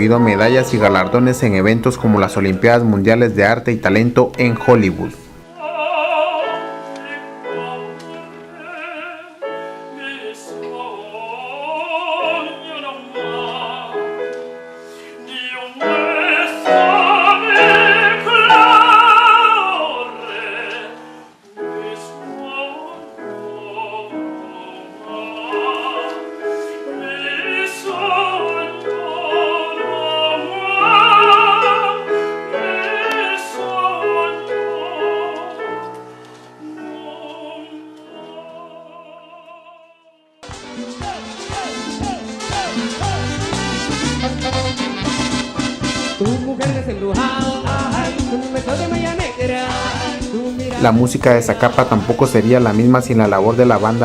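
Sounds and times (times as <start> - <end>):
piano chords: 0.0 - 54.0
operatic singing: 4.8 - 54.0.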